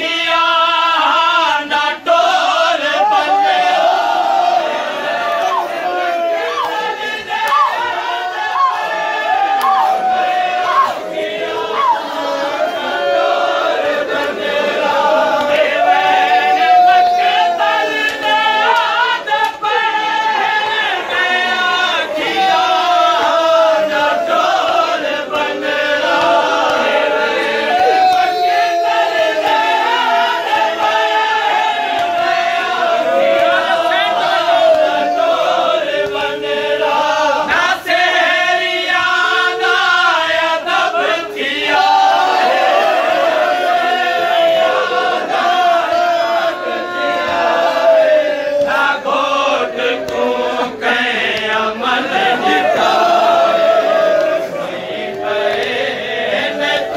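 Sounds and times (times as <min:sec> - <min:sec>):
lead reciter: 0:00.0 - 0:56.9
men chanting in unison: 0:00.0 - 0:56.9.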